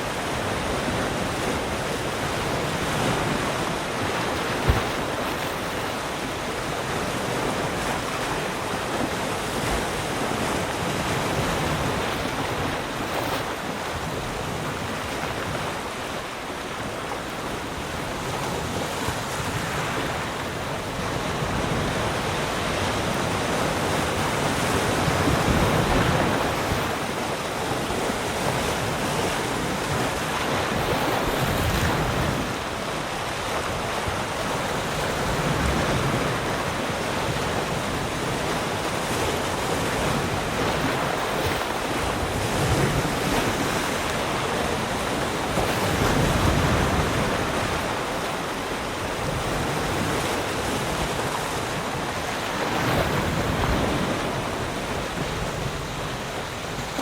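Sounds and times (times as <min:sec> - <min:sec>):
waves breaking and washing ashore: 0:00.0 - 0:57.0
wind on microphone: 0:00.0 - 0:57.0.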